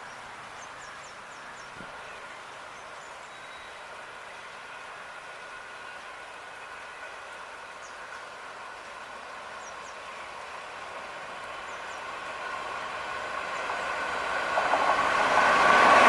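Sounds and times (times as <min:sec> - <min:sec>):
electric locomotive whine: 0:00.0 - 0:16.0.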